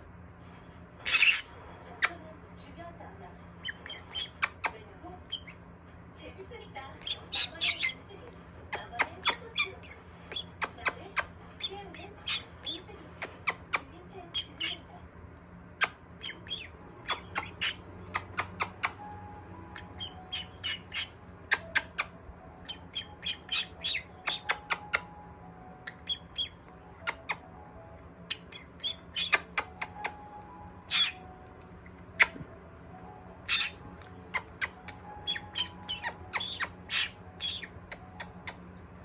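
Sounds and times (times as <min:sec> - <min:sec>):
parrot squawking and chirping: 0:01.0 - 0:02.2, 0:03.5 - 0:05.7, 0:07.0 - 0:08.1, 0:08.7 - 0:14.9, 0:15.6 - 0:38.8.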